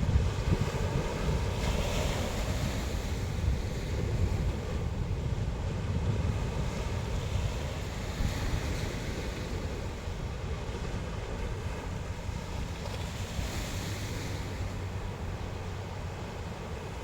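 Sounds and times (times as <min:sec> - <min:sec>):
sea waves washing onto shore: 0:00.0 - 0:17.0
wind buffeting microphone: 0:00.0 - 0:17.0.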